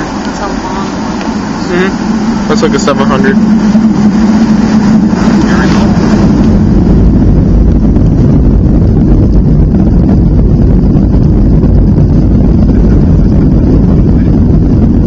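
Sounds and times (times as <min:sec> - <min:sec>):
airliner cabin rumble while taxiing: 0:00.0 - 0:15.0.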